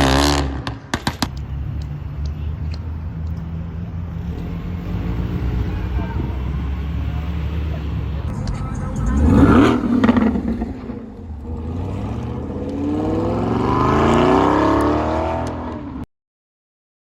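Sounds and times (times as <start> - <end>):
car engine revving and accelerating: 0.0 - 2.1, 2.8 - 16.0.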